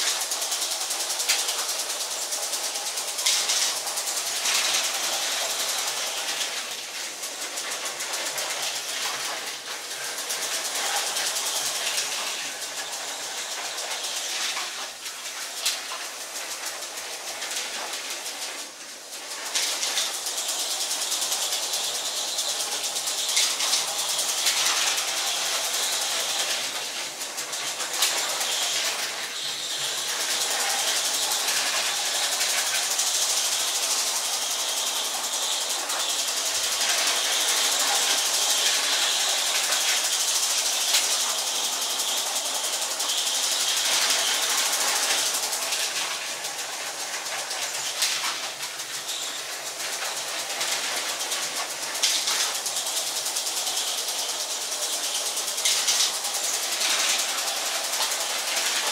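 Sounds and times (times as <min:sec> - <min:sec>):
plastic wheels rattling over rails: 0:00.0 - 0:58.9
toy train motor whirring: 0:00.0 - 0:58.9.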